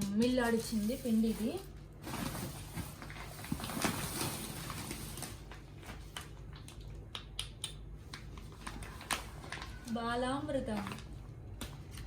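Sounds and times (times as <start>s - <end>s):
plastic packets rustling: 0.2s - 6.8s, 8.1s - 12.0s.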